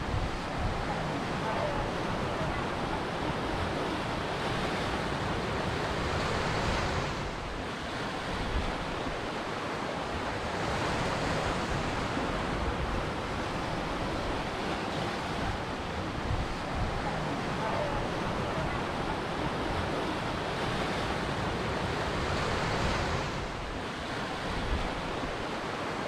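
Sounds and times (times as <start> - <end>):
ocean surf waves washing in: 0.0 - 26.0.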